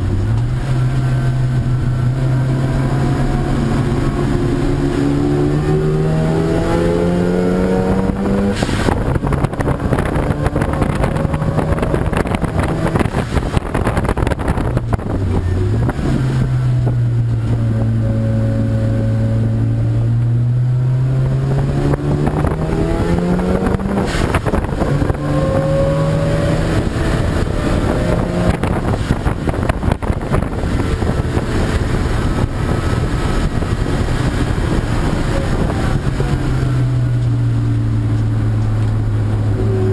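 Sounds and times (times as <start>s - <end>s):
race car engine accelerating: 0.0s - 39.9s
wind and road noise: 0.0s - 39.9s.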